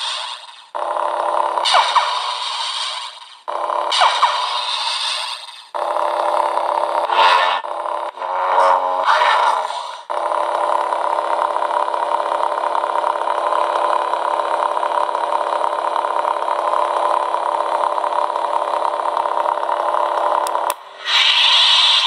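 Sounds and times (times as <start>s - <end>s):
electronic hum through small speaker: 0.0s - 22.0s.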